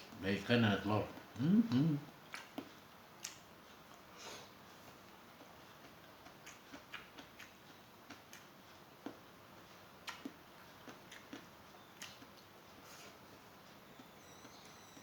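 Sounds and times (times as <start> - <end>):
person chewing food: 1.2 - 14.9.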